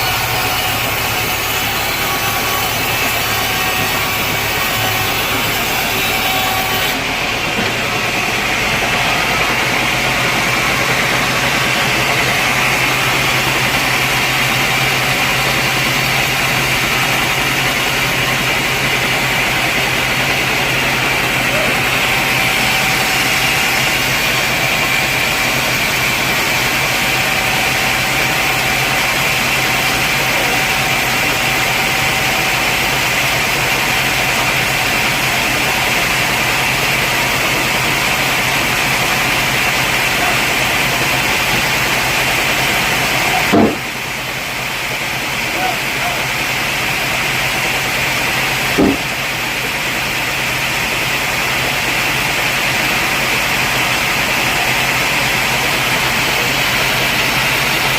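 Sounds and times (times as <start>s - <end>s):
sawmill saw humming: 0.0s - 57.9s.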